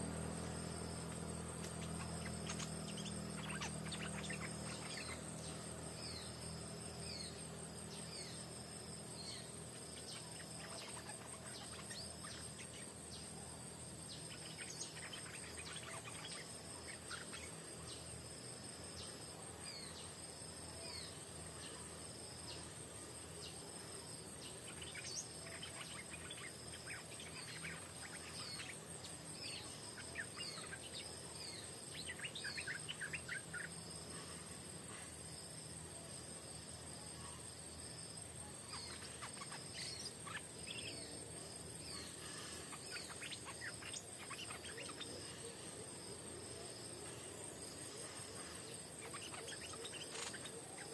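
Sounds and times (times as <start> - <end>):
birds calling: 0.0 - 23.6, 24.2 - 35.7, 38.6 - 50.9
high-pitched insect drone: 0.0 - 50.9.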